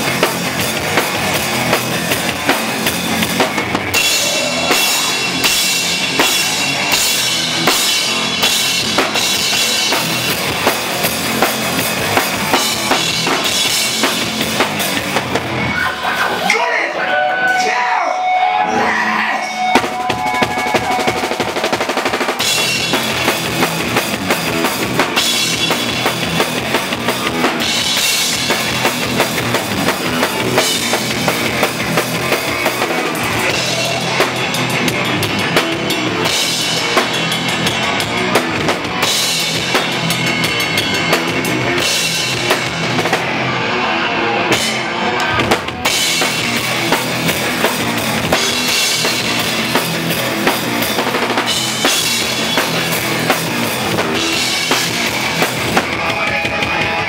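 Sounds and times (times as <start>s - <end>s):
pounding drum kit: 0.0s - 16.7s, 17.3s - 57.0s
distorted electric guitars: 0.0s - 57.0s
punk band playing: 0.0s - 57.0s.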